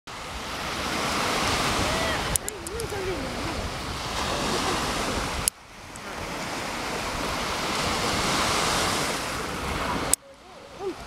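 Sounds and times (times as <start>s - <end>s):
small waves breaking on beach: 0.1s - 11.0s.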